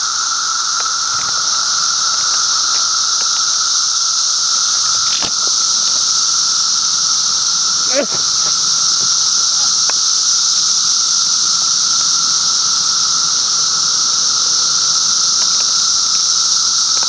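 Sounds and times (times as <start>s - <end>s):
cicadas droning: 0.0s - 17.0s
low steady whine: 0.0s - 17.0s.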